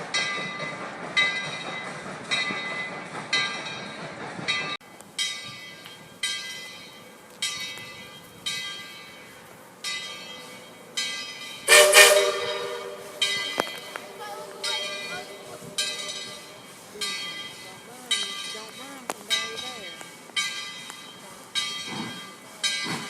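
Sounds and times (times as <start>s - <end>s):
locomotive bell ringing: 0.0s - 23.0s
low train noise: 0.0s - 23.0s.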